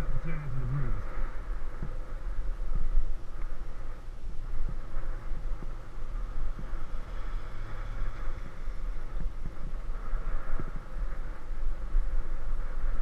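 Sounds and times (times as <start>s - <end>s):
road noise: 0.0s - 13.0s
rush of air: 0.0s - 13.0s
wind buffeting microphone: 0.0s - 13.0s.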